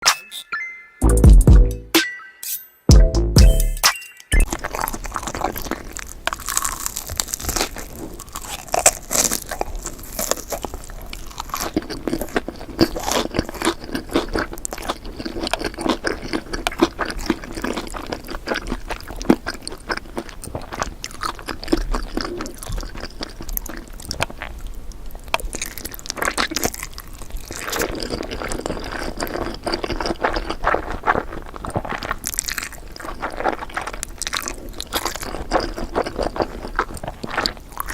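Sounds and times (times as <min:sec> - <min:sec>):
people chewing noodles: 0:04.4 - 0:37.9.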